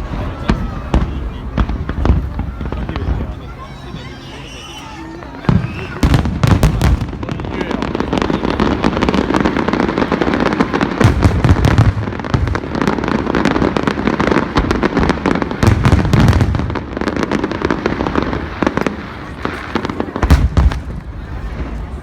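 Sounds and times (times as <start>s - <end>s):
deep firework booms: 0.0s - 4.2s, 5.2s - 22.0s
fireworks crackling and popping: 0.0s - 22.0s.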